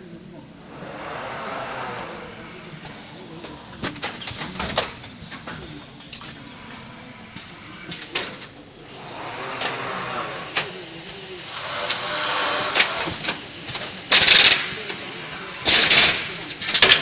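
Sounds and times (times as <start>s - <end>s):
steady air hiss: 0.0s - 17.0s
pneumatic actuators clicking: 0.7s - 17.0s.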